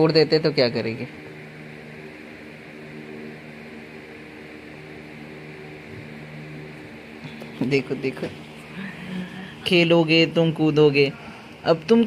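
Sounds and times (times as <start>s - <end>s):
steady room hum with hiss: 0.0s - 12.0s.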